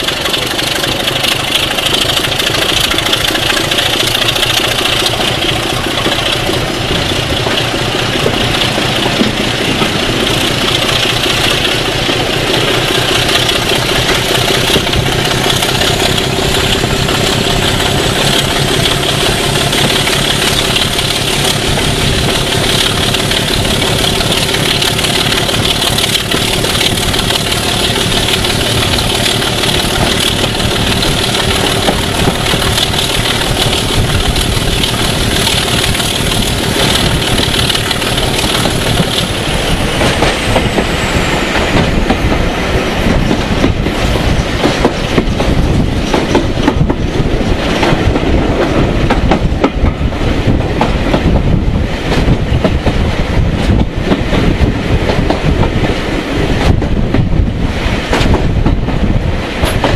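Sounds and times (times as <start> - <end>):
diesel locomotive engine: 0.0 - 59.9
wheels clicking over rail joints: 0.0 - 59.9.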